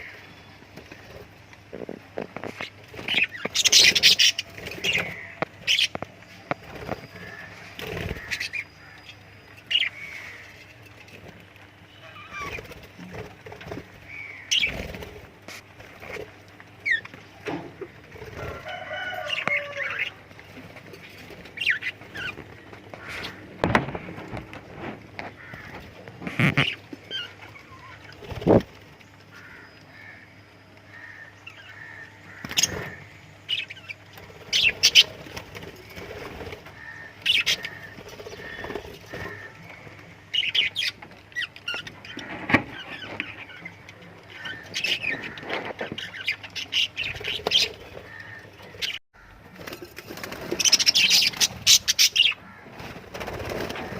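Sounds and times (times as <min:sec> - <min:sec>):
birds chirping and squawking: 0:00.0 - 0:53.9.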